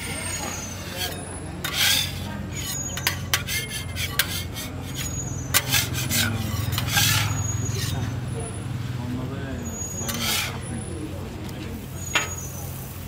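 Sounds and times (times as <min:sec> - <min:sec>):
metal spatula scraping a griddle: 0:00.0 - 0:08.6, 0:09.6 - 0:11.0, 0:11.9 - 0:13.0.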